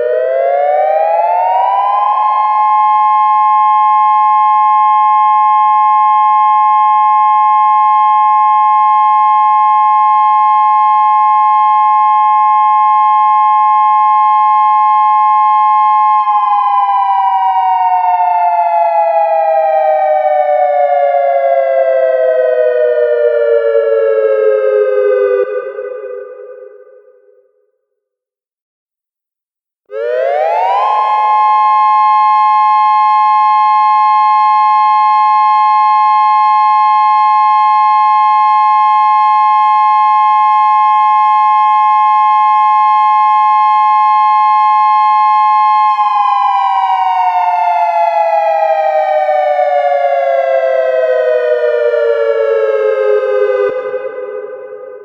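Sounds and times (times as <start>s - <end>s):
electronic siren dual tone: 0.0s - 27.6s, 29.9s - 55.0s.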